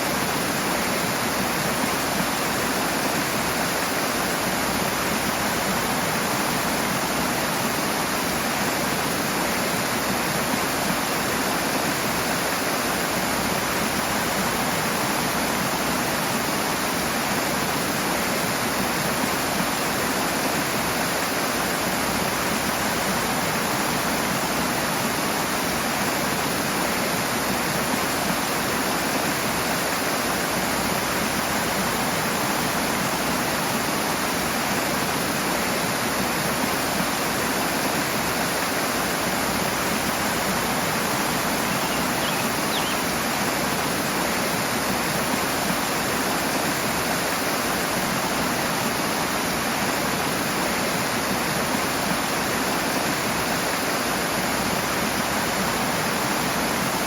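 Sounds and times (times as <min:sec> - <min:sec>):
fast-flowing water roaring: 0:00.0 - 0:57.0.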